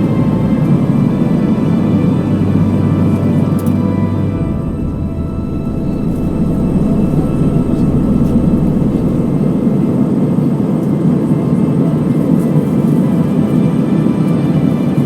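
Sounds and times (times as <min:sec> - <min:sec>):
airplane cabin engine hum: 0:00.0 - 0:15.0
low hum: 0:00.0 - 0:15.0.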